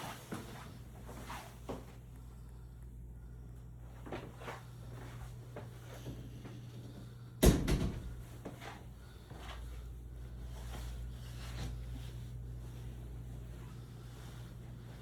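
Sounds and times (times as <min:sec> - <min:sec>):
steady low hum: 0:00.4 - 0:15.0.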